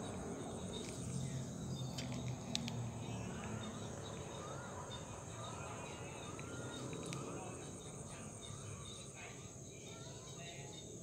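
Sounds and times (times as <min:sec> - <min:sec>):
crickets and insects chirping: 0:00.0 - 0:11.0.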